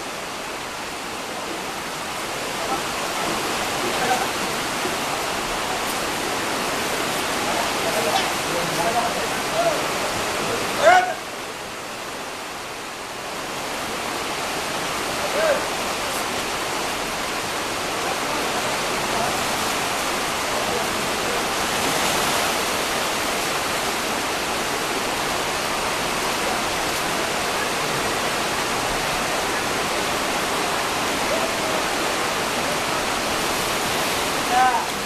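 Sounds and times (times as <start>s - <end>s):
river rushing over rocks: 0.0s - 35.0s.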